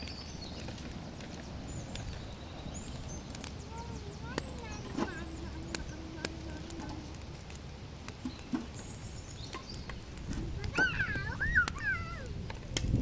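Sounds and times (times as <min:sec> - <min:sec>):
birds chirping: 0:00.0 - 0:12.4
wood fire crackling and popping: 0:00.0 - 0:13.0.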